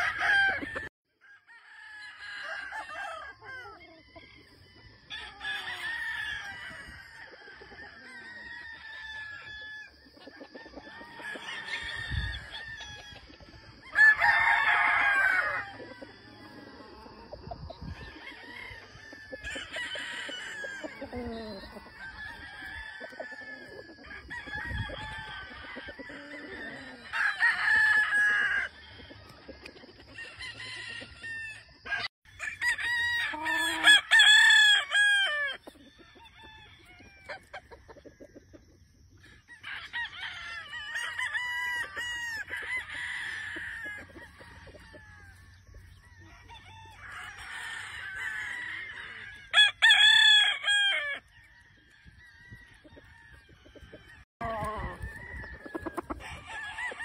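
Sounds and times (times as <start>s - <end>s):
roosters crowing: 0.0s - 57.0s.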